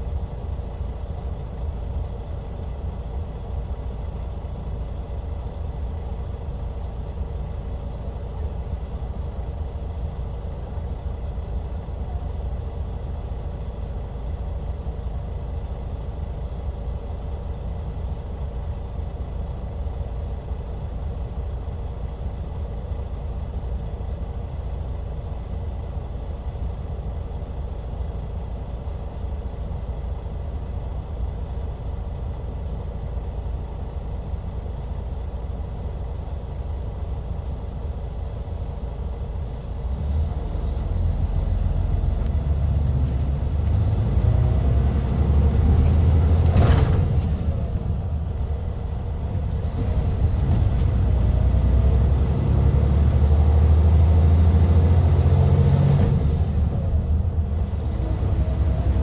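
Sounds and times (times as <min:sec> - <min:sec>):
diesel coach engine droning: 0:00.0 - 0:59.0.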